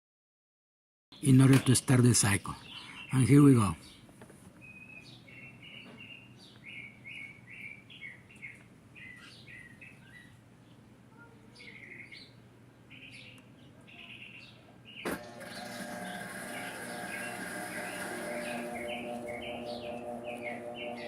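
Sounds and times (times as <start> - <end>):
bird chirping: 1.2 - 10.8, 11.6 - 21.0.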